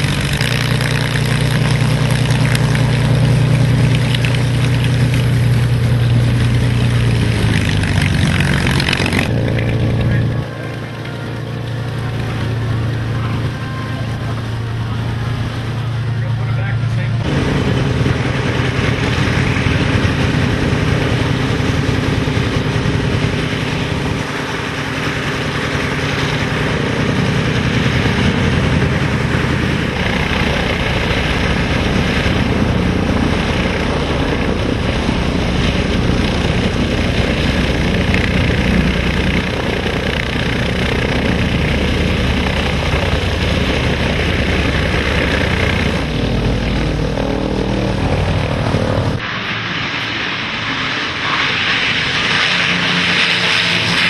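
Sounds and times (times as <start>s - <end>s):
propeller aircraft engine running: 0.0s - 54.0s.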